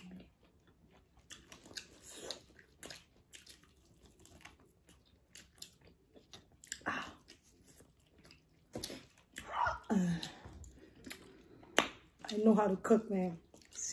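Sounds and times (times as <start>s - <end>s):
person chewing chicken wing: 0.0s - 9.5s, 10.2s - 12.2s.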